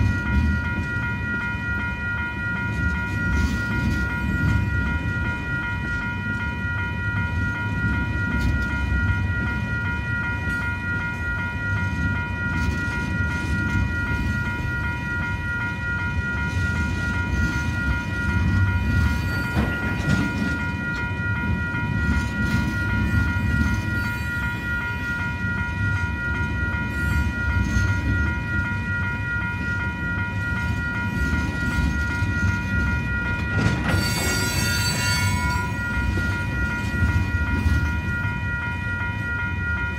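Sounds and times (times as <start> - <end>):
freight train wheels rumbling: 0.0 - 39.9
level-crossing warning bell: 0.0 - 39.9.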